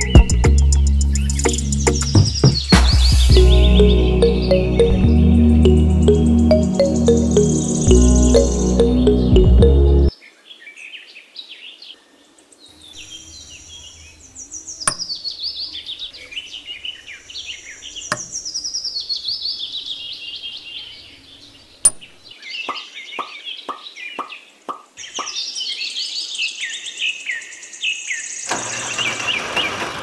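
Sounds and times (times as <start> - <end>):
birds chirping and trilling: 0.0 - 29.7.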